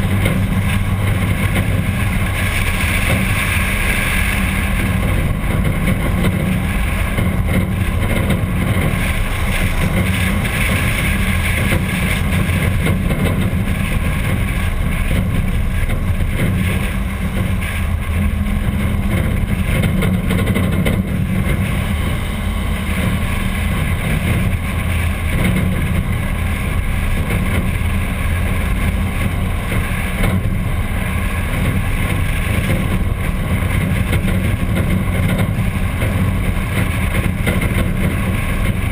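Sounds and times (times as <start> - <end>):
car engine rumble: 0.0 - 38.9
road noise: 0.0 - 38.9
wind on microphone: 0.0 - 38.9.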